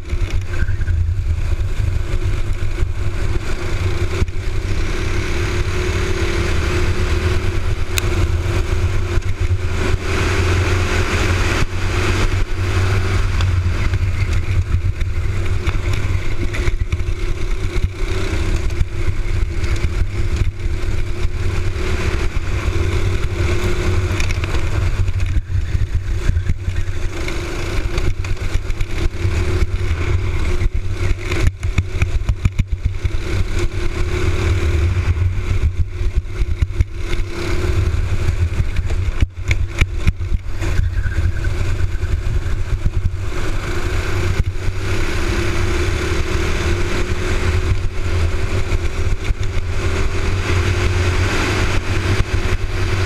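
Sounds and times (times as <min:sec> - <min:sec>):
kart engine running hard: 0:00.0 - 0:53.0.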